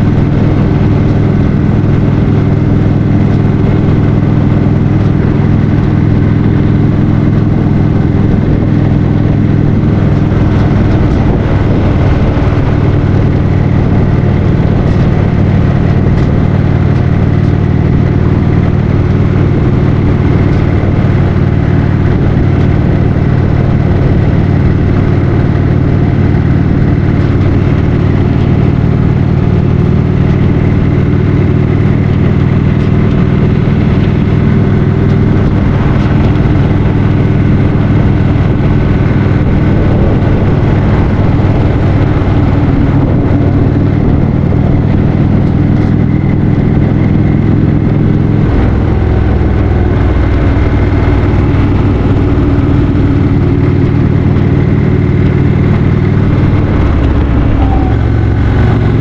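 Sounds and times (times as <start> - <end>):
motorcycle engine running: 0.0 - 59.0
riding noise rush: 0.0 - 59.0.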